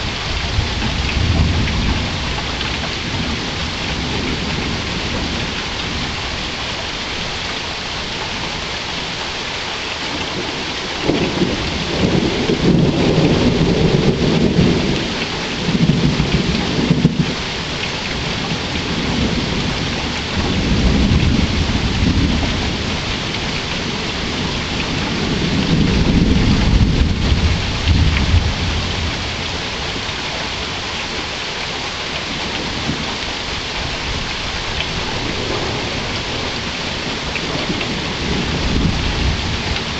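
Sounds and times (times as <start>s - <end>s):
thunder rumbling: 0.0s - 7.4s, 10.2s - 30.5s, 32.2s - 39.9s
steady rain falling: 0.0s - 39.9s.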